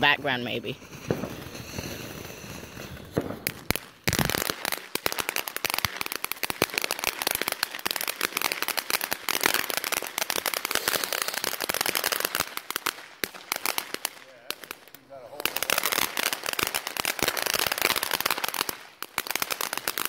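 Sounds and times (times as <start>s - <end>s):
firework fountain crackling: 0.0s - 20.0s.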